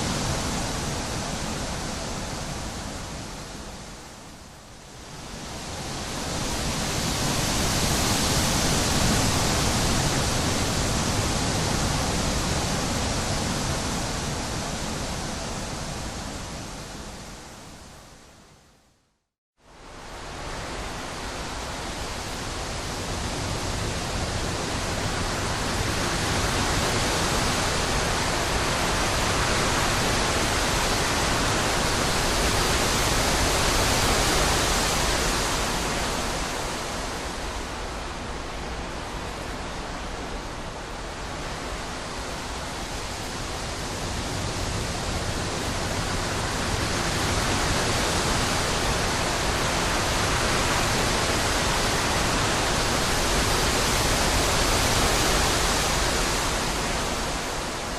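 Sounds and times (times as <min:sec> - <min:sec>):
wind blowing in gusts: 0:00.0 - 0:18.8, 0:19.6 - 0:57.9.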